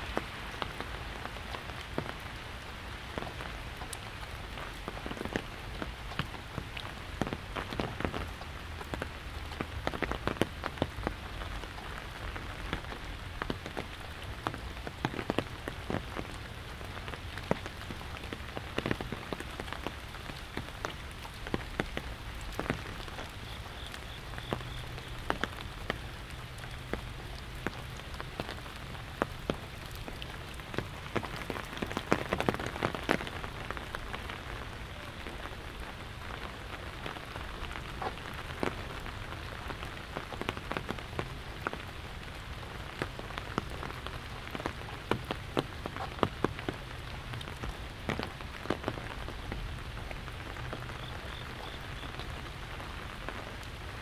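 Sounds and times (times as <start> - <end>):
rain falling on an umbrella: 0.0 - 54.0.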